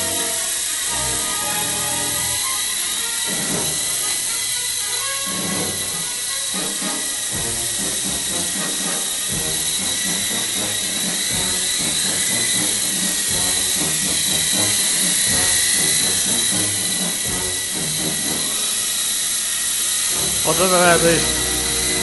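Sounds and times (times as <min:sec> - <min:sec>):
toy helicopter rotor whine: 0:00.0 - 0:22.0.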